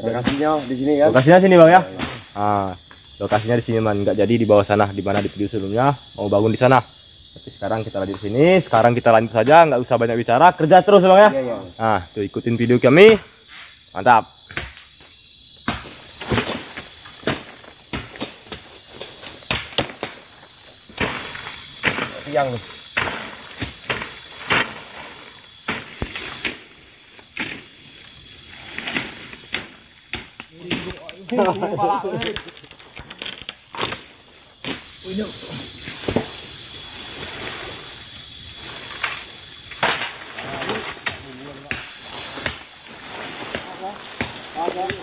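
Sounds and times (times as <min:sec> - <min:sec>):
cicadas shrilling: 0:00.0 - 0:45.0
high-pitched insect drone: 0:00.0 - 0:45.0.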